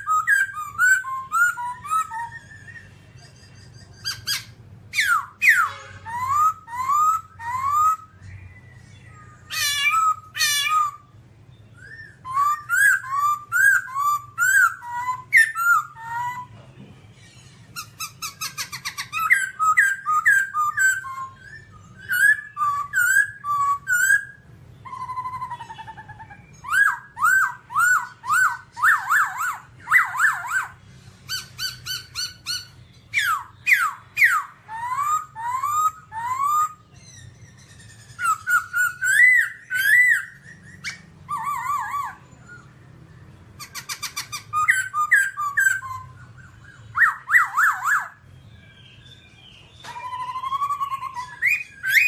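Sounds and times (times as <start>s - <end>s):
bird singing whistled phrases: 0.0s - 16.5s, 17.8s - 42.9s, 43.6s - 52.0s.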